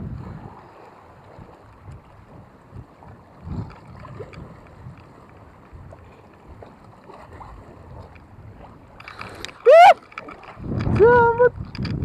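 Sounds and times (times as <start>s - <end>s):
sea water lapping: 0.0s - 12.0s
wind buffeting microphone: 0.0s - 12.0s.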